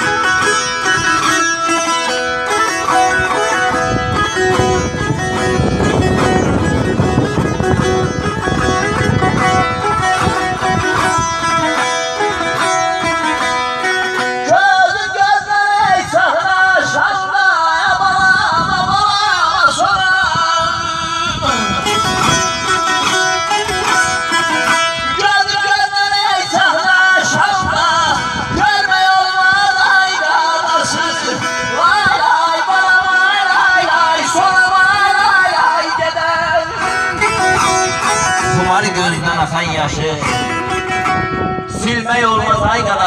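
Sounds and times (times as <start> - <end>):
plucked lute folk melody: 0.0 - 43.0.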